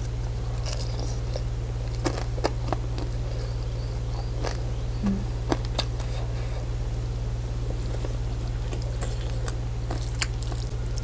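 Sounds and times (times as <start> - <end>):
short low hum: 0.0 - 11.0
steady low electrical hum: 0.0 - 11.0.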